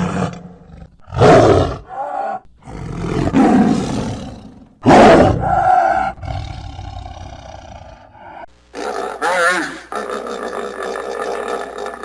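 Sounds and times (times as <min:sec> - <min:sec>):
large animal roaring: 0:00.0 - 0:10.4.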